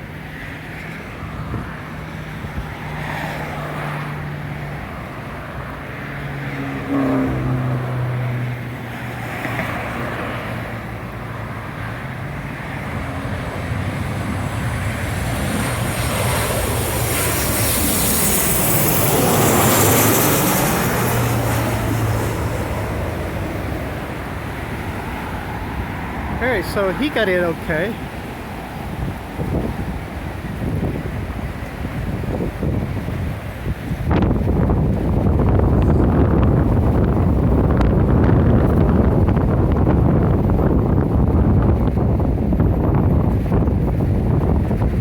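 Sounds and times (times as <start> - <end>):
jet airliner flying past: 0.0 - 45.0.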